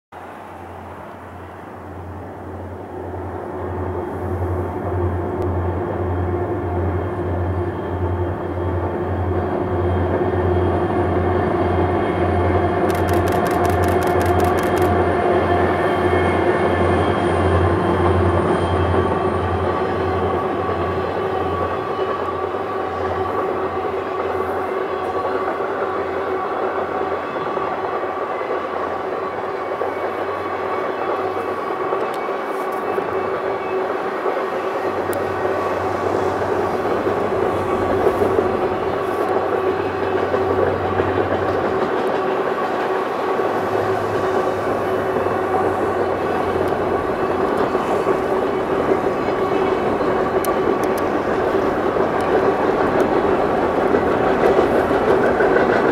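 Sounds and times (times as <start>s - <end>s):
train wheels rumbling on rails: 0.2s - 55.9s.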